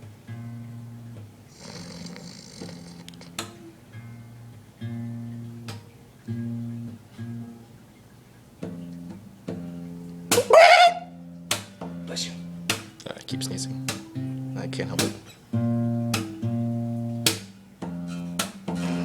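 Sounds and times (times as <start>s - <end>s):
guitar playing slow chords: 0.0s - 19.0s.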